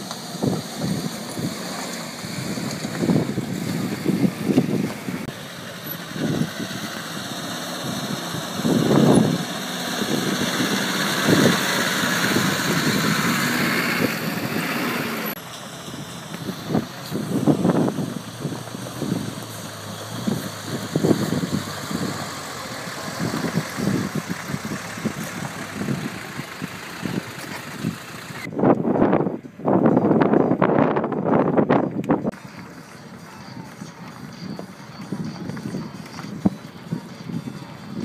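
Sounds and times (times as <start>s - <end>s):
off-road vehicle engines crawling: 0.0s - 38.0s.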